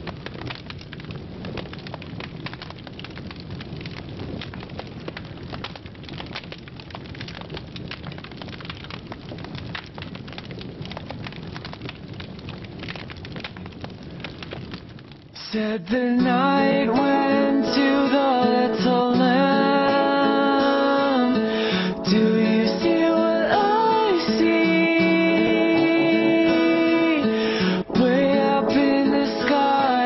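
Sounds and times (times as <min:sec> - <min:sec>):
crackling static with clicks: 0:00.0 - 0:30.0.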